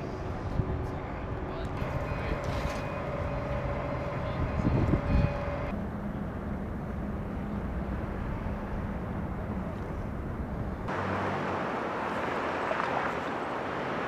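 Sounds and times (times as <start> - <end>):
machinery rumble and hum: 0.0 - 11.3.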